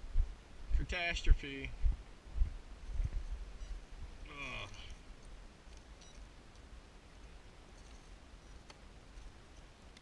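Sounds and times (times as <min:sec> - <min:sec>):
faint low rumble: 0:00.0 - 0:10.0.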